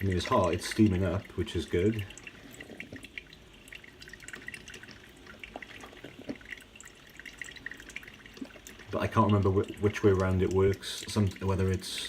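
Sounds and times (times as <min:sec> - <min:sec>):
coffee maker dripping: 0:00.0 - 0:12.0.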